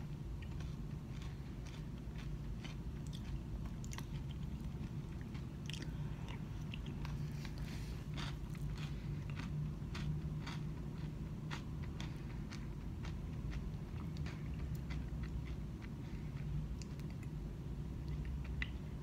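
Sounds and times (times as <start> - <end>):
low room hum: 0.0 - 19.0
person chewing: 0.3 - 17.4, 18.0 - 18.9.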